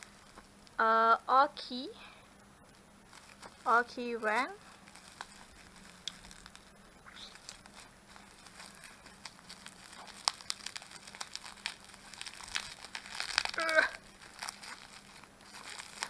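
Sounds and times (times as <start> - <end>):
packaging crinkling: 3.0 - 16.0.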